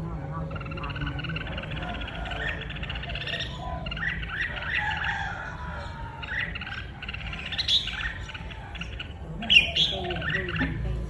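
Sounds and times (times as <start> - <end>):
bird chattering and warbling: 0.0 - 11.0.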